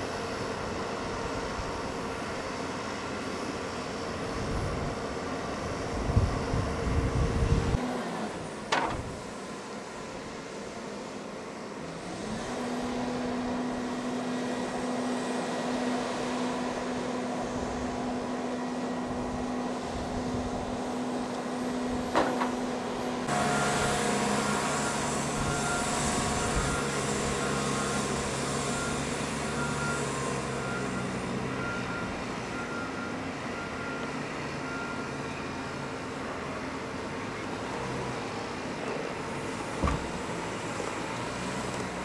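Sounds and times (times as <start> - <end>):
engine hum: 0.0 - 42.0
vehicle engine and road noise: 0.0 - 42.0.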